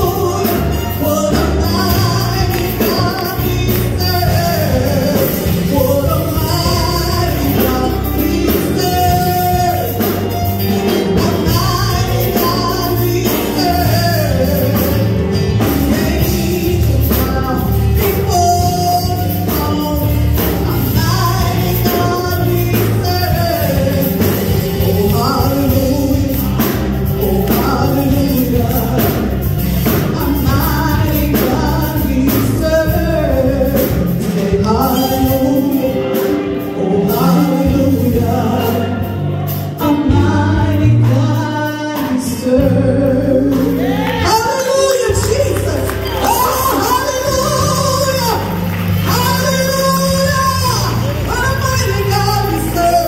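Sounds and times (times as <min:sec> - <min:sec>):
woman singing gospel song: 0:00.0 - 0:39.1, 0:39.8 - 0:53.0
instrumental backing with bass: 0:00.0 - 0:53.0.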